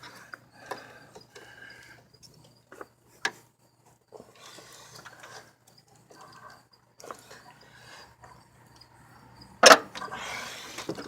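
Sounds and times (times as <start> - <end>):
hand tools clicking and scraping: 0.0 - 8.9, 9.6 - 11.0.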